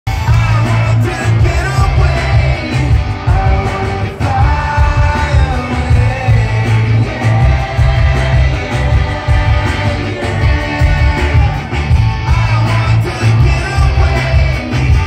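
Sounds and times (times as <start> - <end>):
electric guitar: 0.1 - 15.0
heavy bass: 0.1 - 15.0
person singing: 0.1 - 15.0.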